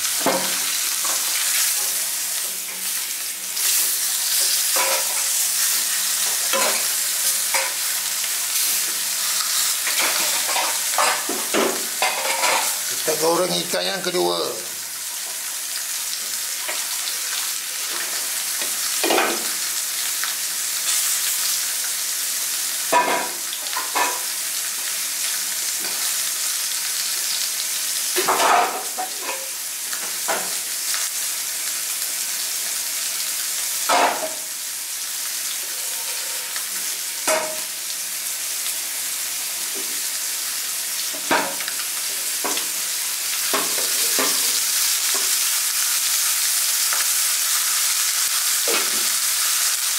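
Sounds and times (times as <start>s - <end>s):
fish sizzling in oil: 0.0s - 49.9s.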